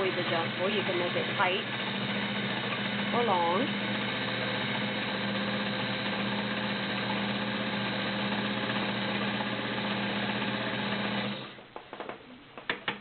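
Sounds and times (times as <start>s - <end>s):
sewing machine running: 0.0s - 11.6s.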